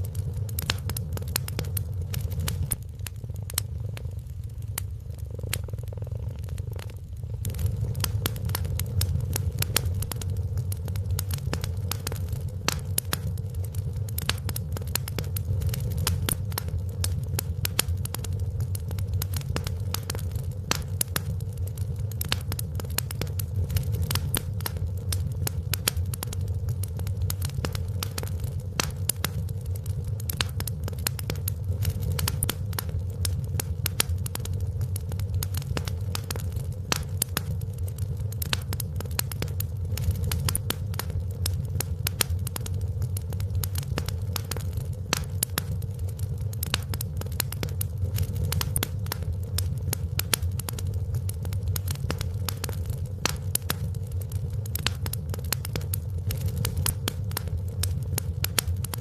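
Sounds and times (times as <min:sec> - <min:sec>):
constant low rumble: 0:00.0 - 0:59.0
wood fire crackling and popping: 0:00.0 - 0:59.0.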